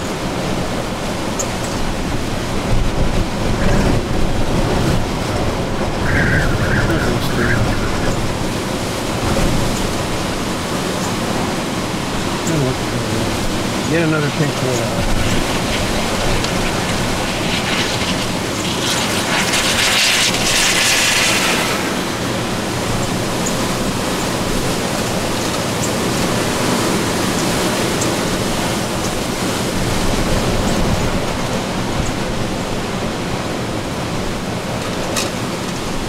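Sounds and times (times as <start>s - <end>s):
strong wind rushing: 0.0s - 36.0s.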